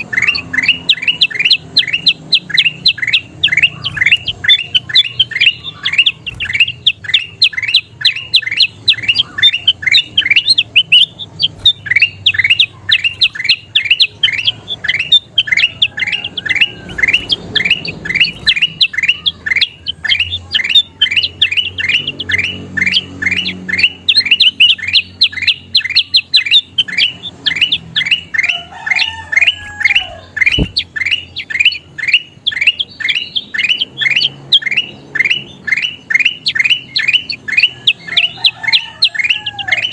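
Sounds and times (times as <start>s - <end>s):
bulbul chirping: 0.0s - 39.9s.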